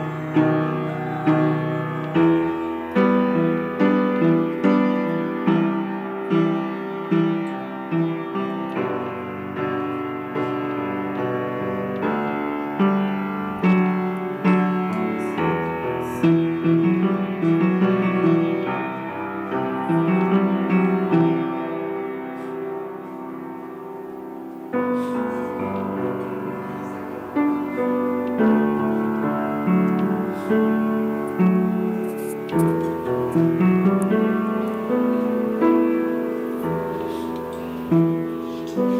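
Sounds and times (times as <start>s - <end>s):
slow piano music: 0.0s - 38.9s.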